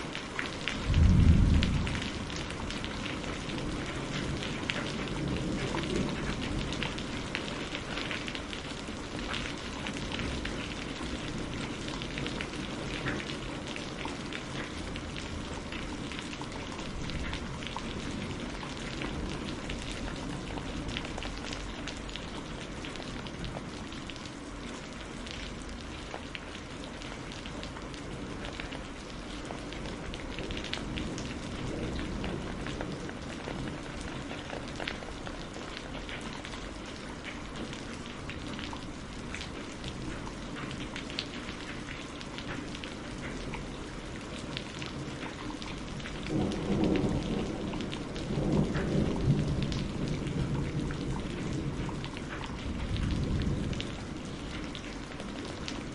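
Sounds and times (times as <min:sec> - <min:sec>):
rain pattering on a surface: 0:00.0 - 0:55.9.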